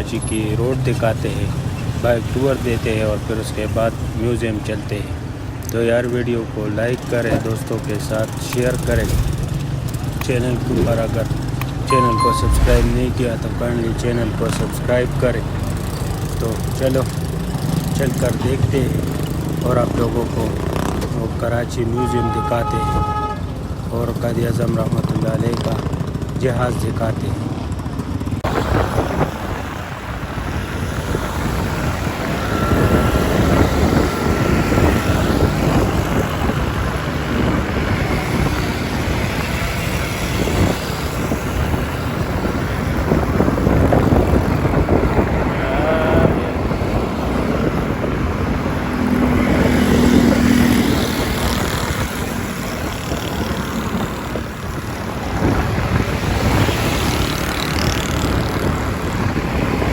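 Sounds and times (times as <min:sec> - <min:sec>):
motorcycle engine and road noise: 0:00.0 - 0:59.9
vehicles passing: 0:00.0 - 0:59.9.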